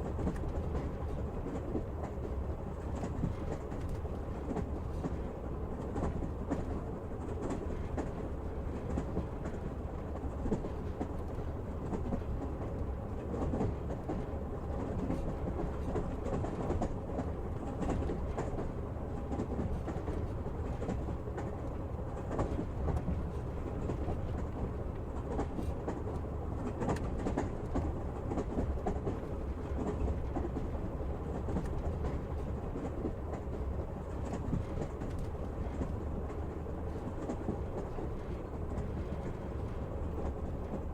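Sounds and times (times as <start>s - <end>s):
train low rumble: 0.0s - 40.9s.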